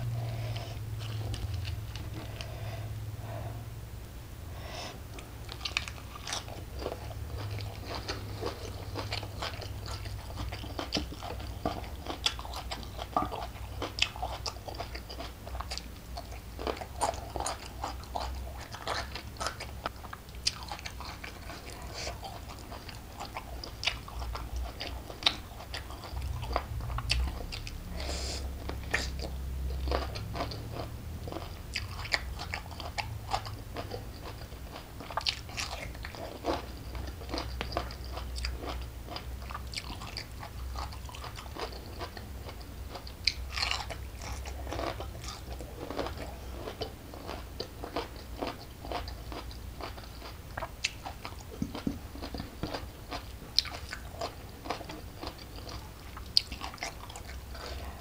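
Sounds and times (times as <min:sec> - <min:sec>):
steady low hum: 0:00.0 - 0:58.0
wet chewing: 0:00.1 - 0:02.6, 0:05.1 - 0:58.0.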